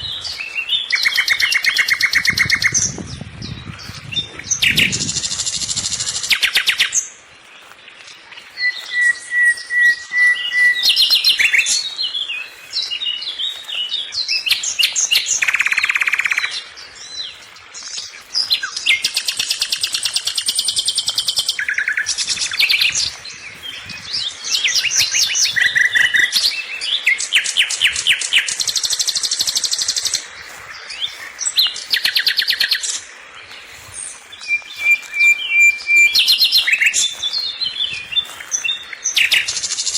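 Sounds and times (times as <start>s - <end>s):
songbird trilling: 0.0s - 7.1s, 8.4s - 39.9s.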